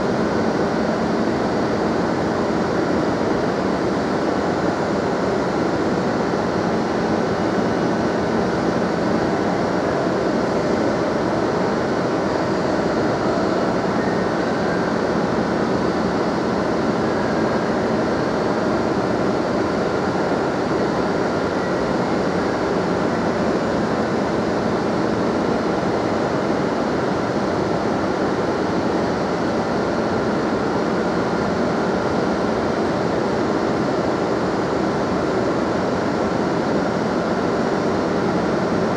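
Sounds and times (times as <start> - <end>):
train equipment hum and hiss: 0.0 - 38.9.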